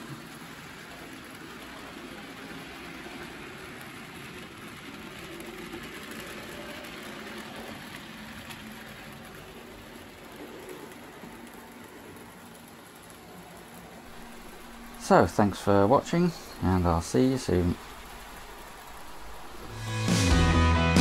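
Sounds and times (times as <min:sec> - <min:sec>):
model trains rumbling on rails: 0:00.0 - 0:20.0.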